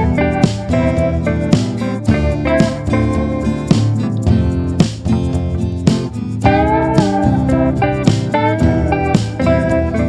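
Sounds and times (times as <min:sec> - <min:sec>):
guitar instrumental with steady beat: 0:00.0 - 0:10.0.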